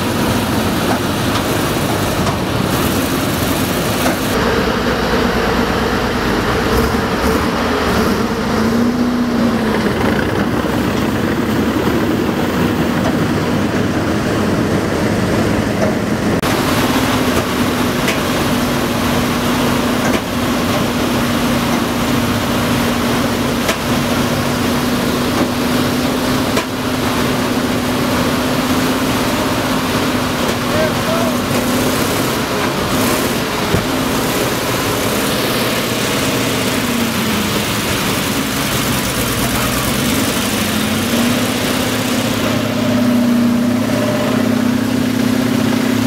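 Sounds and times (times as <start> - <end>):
vehicle engine droning: 0.0 - 46.0.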